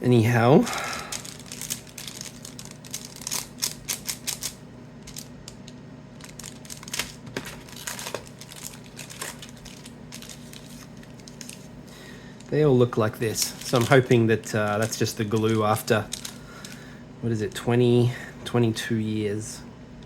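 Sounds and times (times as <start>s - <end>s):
foil wrappers crinkling: 0.7s - 16.9s.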